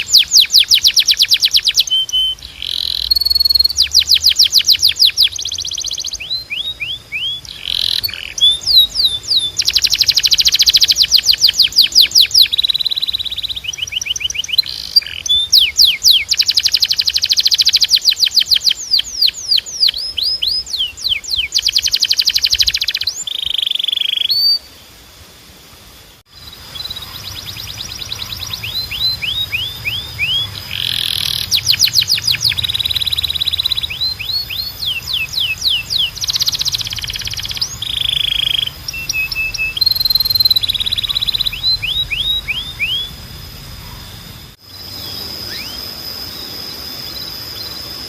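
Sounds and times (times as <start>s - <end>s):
canary singing trills: 0.0s - 24.9s, 26.3s - 48.0s.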